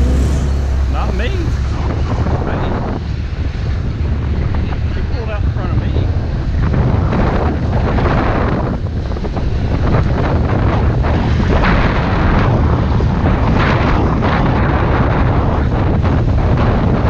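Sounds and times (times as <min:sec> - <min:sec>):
motorbike engine and road rumble: 0:00.0 - 0:17.0
wind buffeting microphone: 0:00.0 - 0:17.0.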